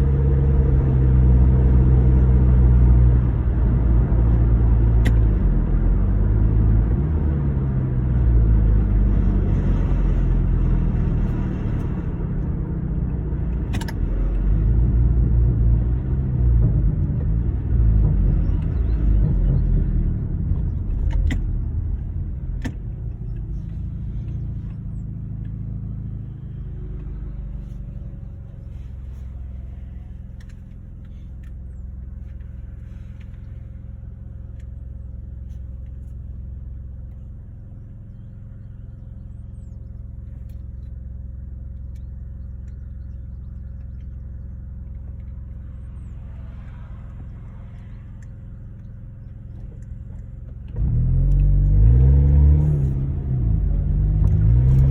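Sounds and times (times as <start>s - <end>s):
car engine idling: 7.8s - 54.9s.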